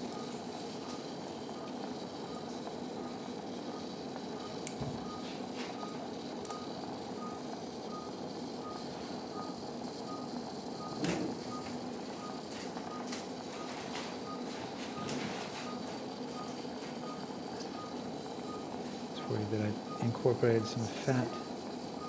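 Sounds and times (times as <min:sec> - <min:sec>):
operating room hum: 0:00.0 - 0:22.0
patient monitor beeping: 0:00.0 - 0:22.0.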